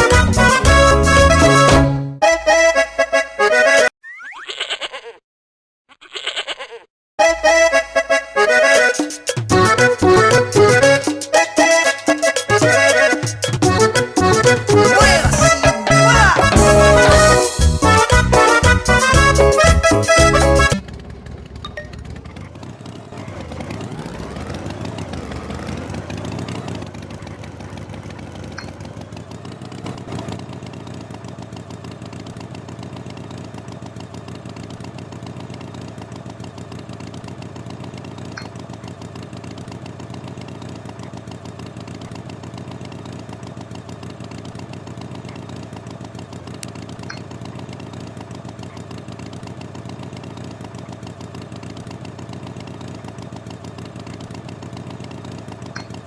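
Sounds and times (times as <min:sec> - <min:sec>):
engine revving and idling: 0:00.0 - 0:01.9, 0:07.5 - 0:56.0.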